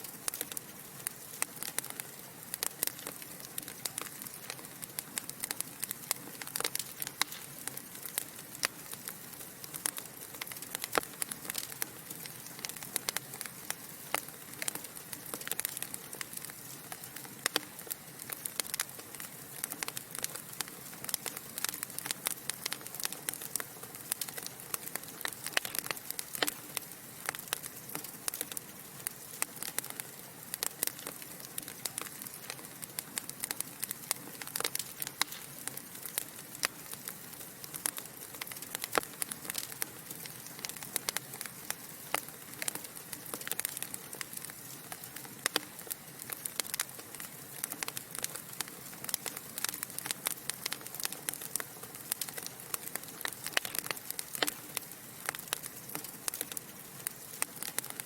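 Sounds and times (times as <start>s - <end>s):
logs crackling and popping: 0.0s - 58.0s.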